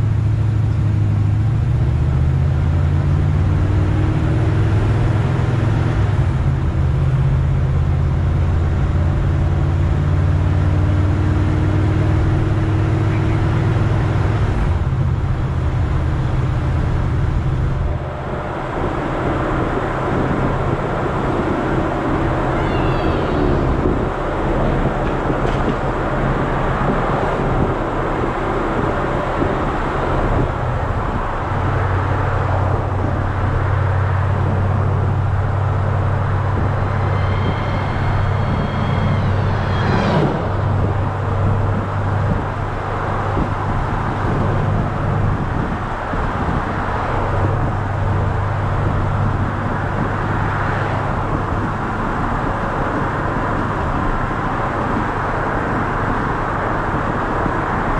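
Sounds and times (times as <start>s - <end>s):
car engine droning: 0.0s - 57.9s
road and wind noise: 0.0s - 57.9s.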